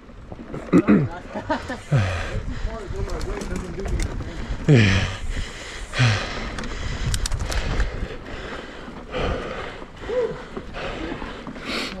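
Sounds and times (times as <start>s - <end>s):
bike rattles: 0.0s - 12.0s
bike tyres on dirt trail: 0.0s - 12.0s.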